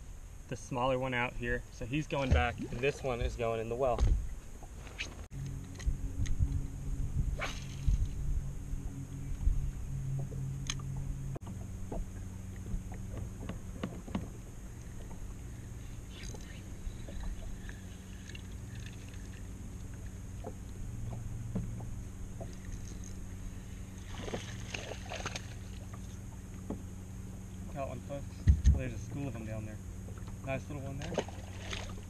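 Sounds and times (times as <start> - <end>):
boat low hum: 0.0 - 32.0.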